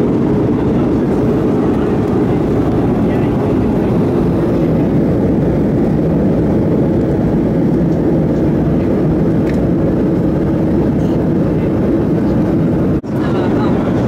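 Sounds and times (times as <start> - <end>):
airplane cabin drone: 0.0 - 14.0.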